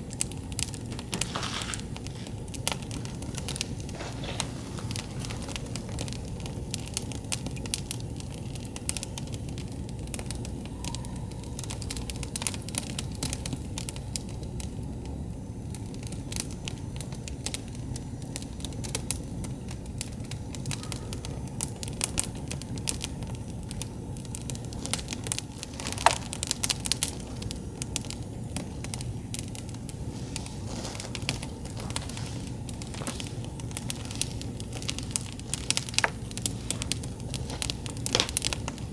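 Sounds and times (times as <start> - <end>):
campfire crackling and popping: 0.0 - 38.9
low steady fire rumble: 0.0 - 38.9.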